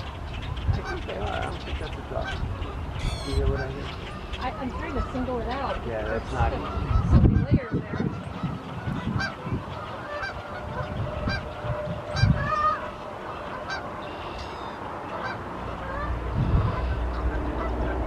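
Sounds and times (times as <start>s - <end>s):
waterbirds honking: 0.0s - 18.0s.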